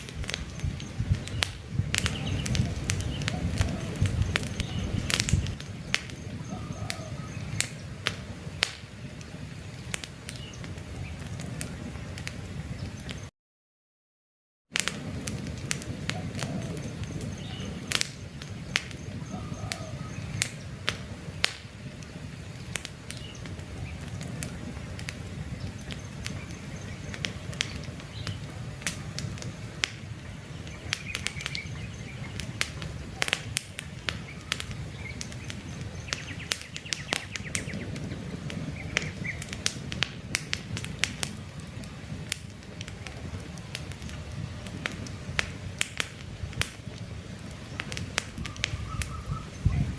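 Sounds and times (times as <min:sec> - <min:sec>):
campfire crackling and popping: 0:00.0 - 0:13.3, 0:14.7 - 0:49.9
low rumble of burning: 0:00.0 - 0:13.3, 0:14.8 - 0:49.9
small birds chirping: 0:00.0 - 0:13.3, 0:16.1 - 0:46.0, 0:46.8 - 0:49.9.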